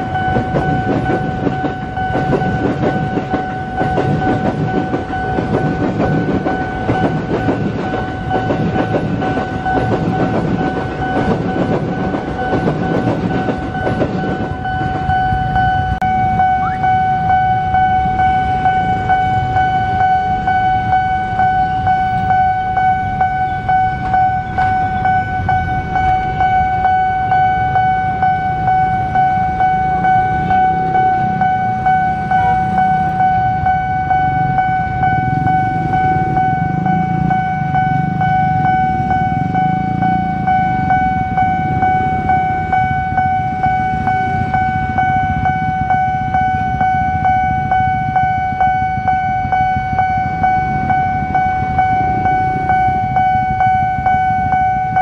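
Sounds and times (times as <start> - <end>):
level-crossing alarm tone: 0.0 - 55.0
motorcycles idling: 0.0 - 55.0.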